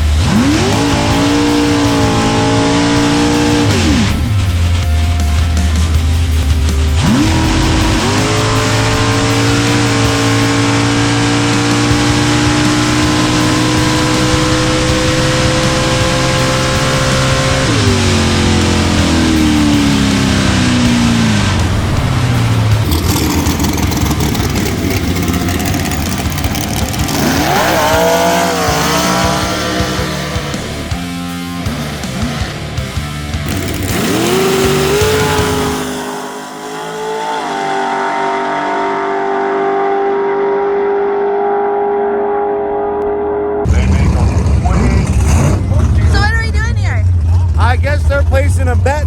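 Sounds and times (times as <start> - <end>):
race car engine at full throttle: 0.0 - 49.0.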